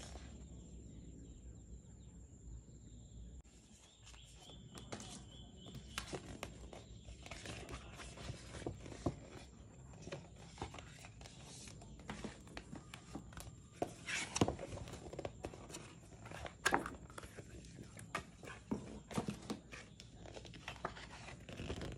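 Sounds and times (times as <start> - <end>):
card and brochure rustling: 3.5 - 21.9.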